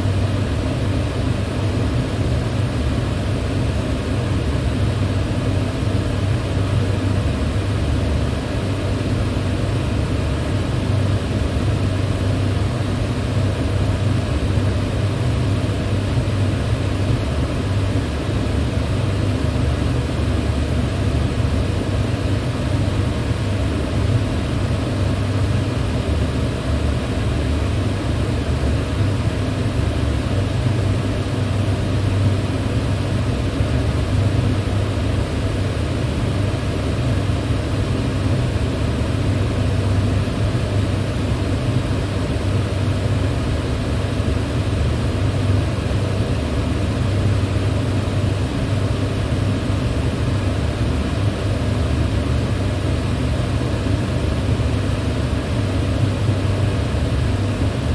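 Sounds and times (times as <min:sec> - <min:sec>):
electric fan running: 0:00.0 - 0:57.9.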